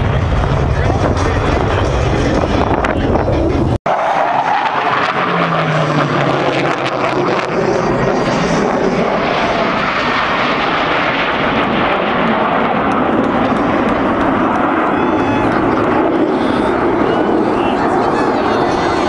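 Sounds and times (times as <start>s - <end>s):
airplane engine roar: 0.0s - 19.0s.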